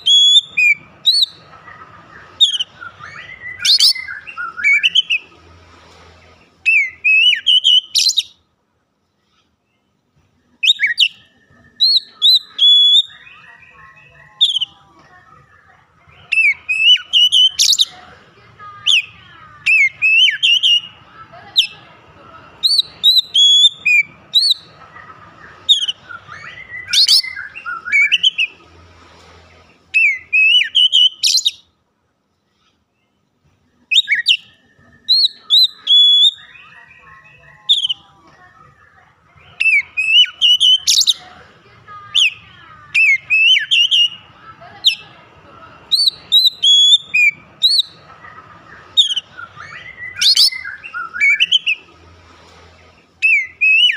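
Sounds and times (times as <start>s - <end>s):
magpie-robin singing: 0.0s - 5.6s, 6.4s - 8.4s, 10.5s - 28.8s, 29.8s - 31.7s, 33.8s - 52.1s, 53.1s - 53.9s.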